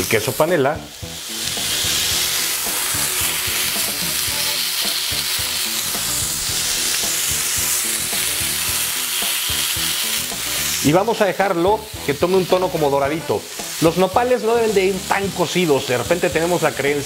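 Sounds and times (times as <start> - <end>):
food sizzling in a griddle pan: 0.0 - 17.0.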